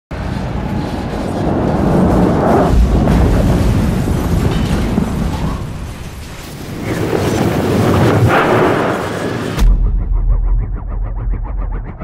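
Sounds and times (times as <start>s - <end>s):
low rumbling explosion boom: 0.1s - 10.3s.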